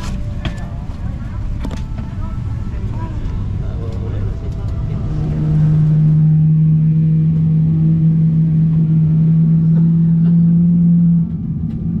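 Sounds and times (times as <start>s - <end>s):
aircraft cabin rumble: 0.0s - 12.0s
low held drone tone: 0.0s - 12.0s.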